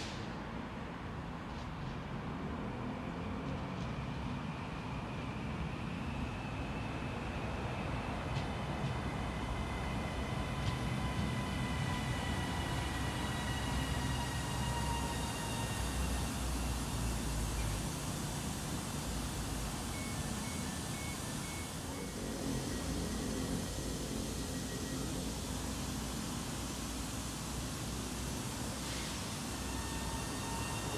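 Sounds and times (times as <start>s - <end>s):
train rumbling: 0.0s - 30.9s
high train whine: 0.2s - 30.9s.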